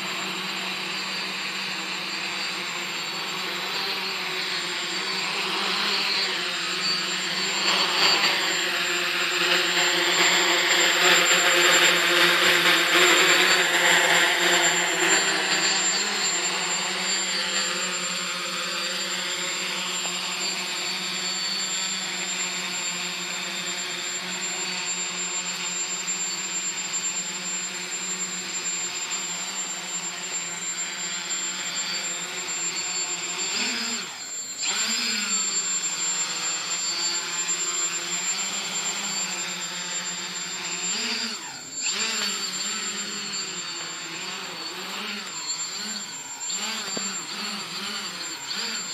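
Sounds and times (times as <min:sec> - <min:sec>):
quadcopter propellers buzzing: 0:00.0 - 0:48.9.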